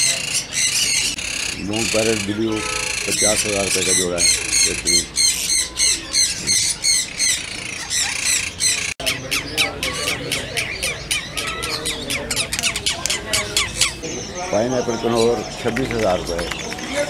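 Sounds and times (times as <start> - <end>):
parakeets squawking: 0.0 - 17.0.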